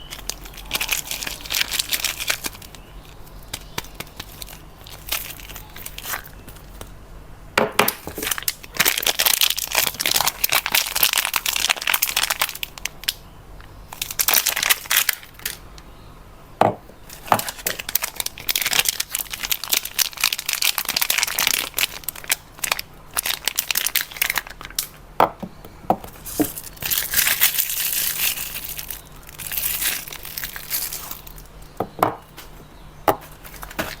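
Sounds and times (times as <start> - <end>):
wrappers crinkling and tearing: 0.0 - 6.9, 8.0 - 13.2, 13.9 - 15.6, 17.1 - 25.0, 26.1 - 32.6, 33.2 - 34.0.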